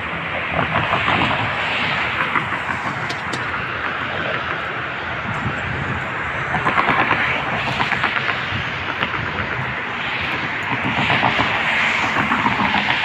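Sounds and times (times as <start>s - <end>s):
road traffic roar: 0.0s - 13.0s.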